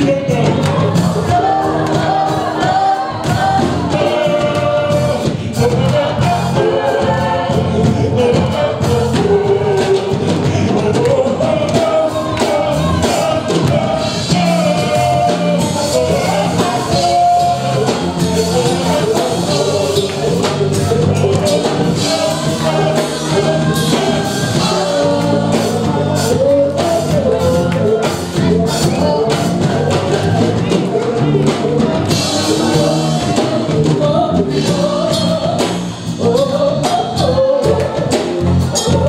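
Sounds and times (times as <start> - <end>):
band playing steady beat: 0.0 - 39.0
group of singers: 0.0 - 39.0
lead singer on microphone: 0.0 - 39.0.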